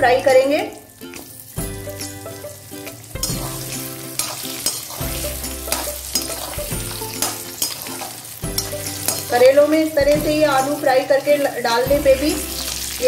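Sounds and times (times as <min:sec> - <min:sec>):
background music: 0:00.0 - 0:13.0
potato wedges sizzling in oil: 0:00.0 - 0:13.0.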